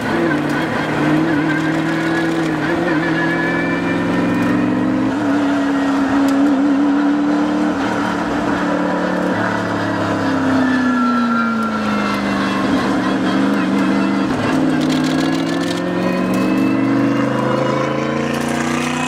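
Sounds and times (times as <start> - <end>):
race car engine under load: 0.0 - 19.0.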